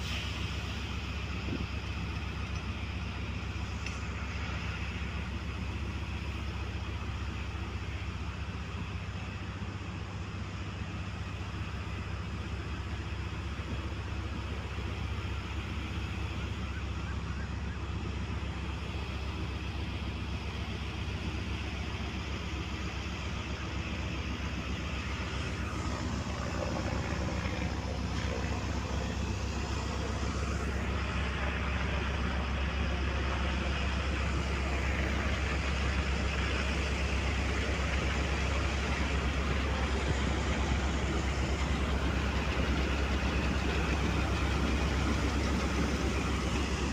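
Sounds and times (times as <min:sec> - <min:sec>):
locomotive engine drone: 0:00.0 - 0:46.9.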